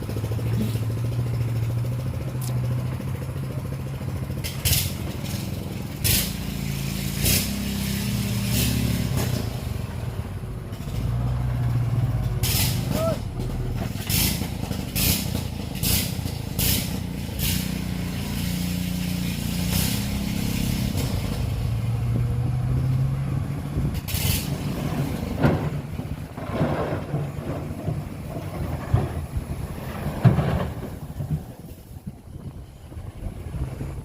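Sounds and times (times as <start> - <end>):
heavy diesel machinery engine: 0.0 - 34.0.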